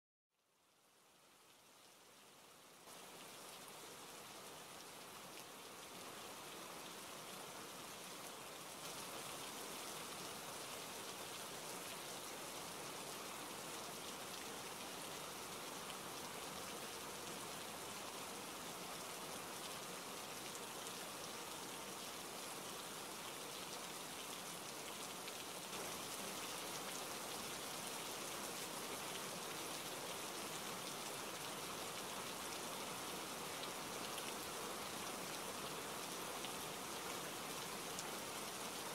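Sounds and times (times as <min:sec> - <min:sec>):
rain pattering on surfaces: 0:01.0 - 0:38.9.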